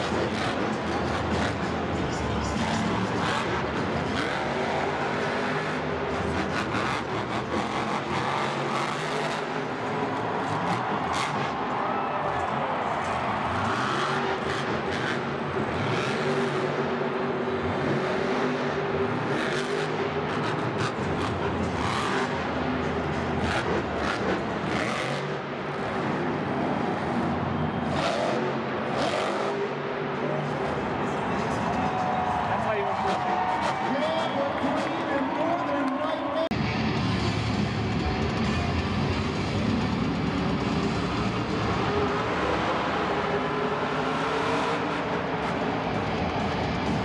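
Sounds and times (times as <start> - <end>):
truck engine revving: 0.0 - 35.3, 36.4 - 47.0.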